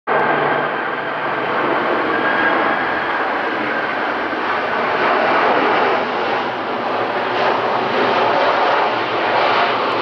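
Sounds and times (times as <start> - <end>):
jet engines rumbling: 0.1 - 10.0.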